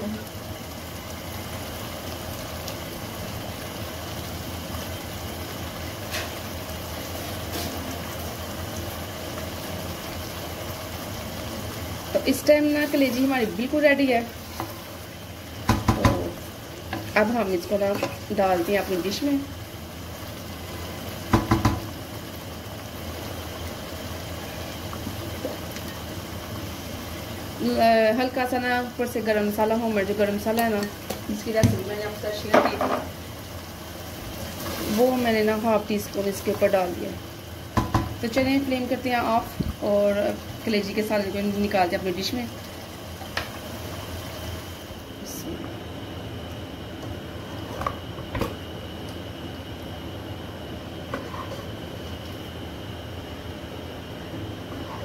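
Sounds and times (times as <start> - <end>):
curry sizzling in oil: 0.0 - 55.0.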